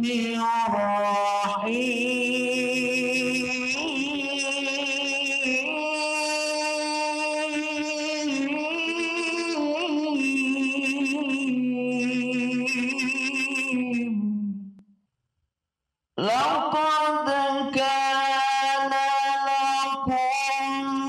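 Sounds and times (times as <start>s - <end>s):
man reciting in melodic style: 0.0s - 14.6s, 16.2s - 21.0s.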